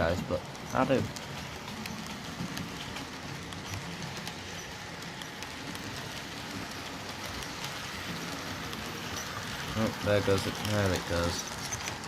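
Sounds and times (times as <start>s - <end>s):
model train rumbling on track: 0.0s - 12.0s.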